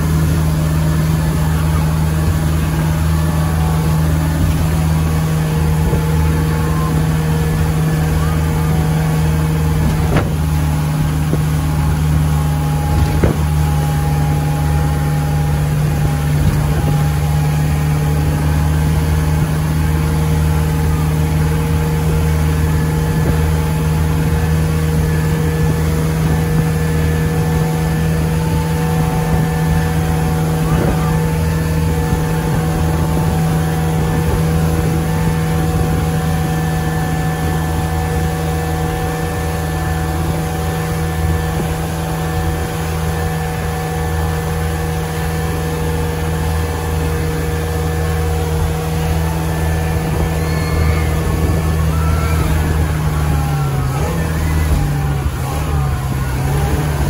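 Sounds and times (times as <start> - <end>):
churning boat wake: 0.0 - 57.0
motorboat engine droning: 0.0 - 57.0.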